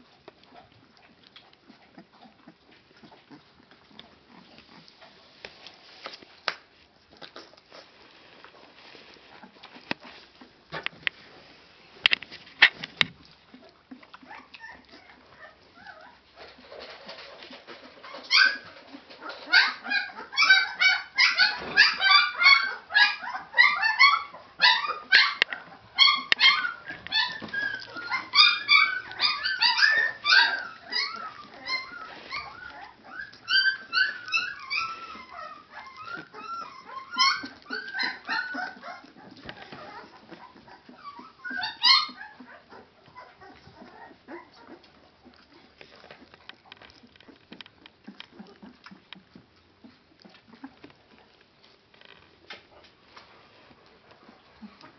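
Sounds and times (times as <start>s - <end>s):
puppies squeaking and whining: 0.4s - 6.0s, 12.5s - 54.9s.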